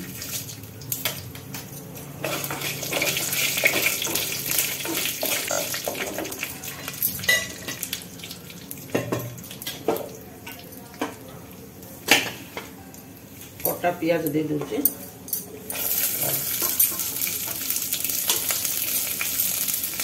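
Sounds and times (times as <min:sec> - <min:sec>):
spices sizzling in hot oil: 0:00.0 - 0:14.5, 0:15.7 - 0:20.0.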